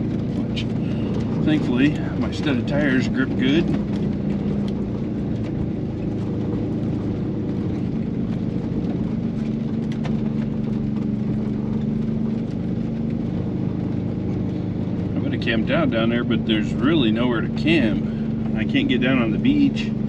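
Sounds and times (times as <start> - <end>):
van engine running under load: 0.0 - 20.0.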